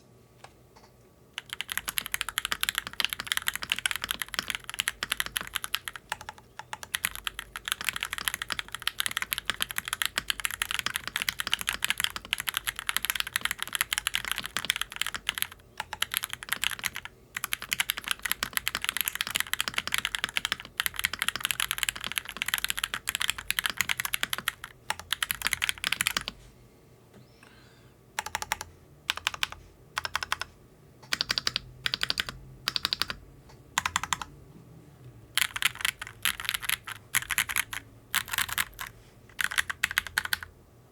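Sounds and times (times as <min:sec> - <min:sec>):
mechanical keyboard typing: 0:01.4 - 0:26.4, 0:28.2 - 0:33.2, 0:33.8 - 0:34.3, 0:35.4 - 0:40.5.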